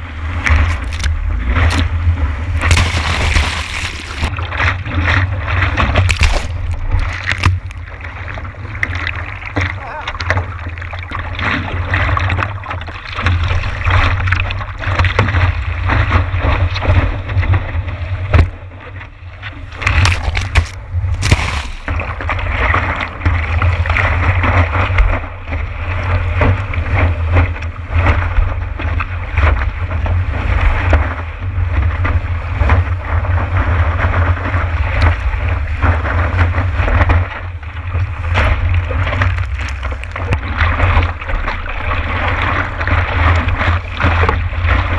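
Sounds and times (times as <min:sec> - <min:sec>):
water rushing and splashing: 0:00.0 - 0:44.9.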